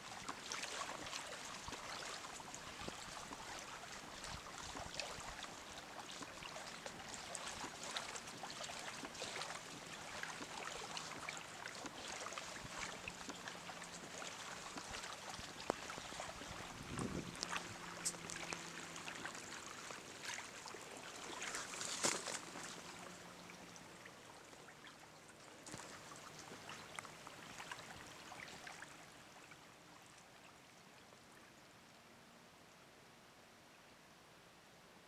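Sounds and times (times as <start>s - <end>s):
water lapping against kayak hull: 0.0s - 29.6s
small splashes and drips: 0.0s - 31.2s.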